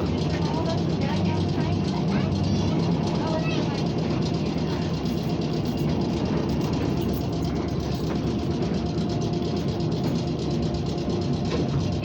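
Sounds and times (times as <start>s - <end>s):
trolley wheels on rails: 0.0s - 12.0s.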